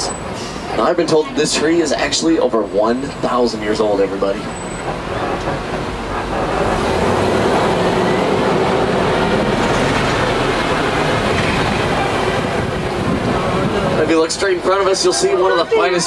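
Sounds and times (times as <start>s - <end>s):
truck rattling over bumpy road: 0.0s - 15.5s.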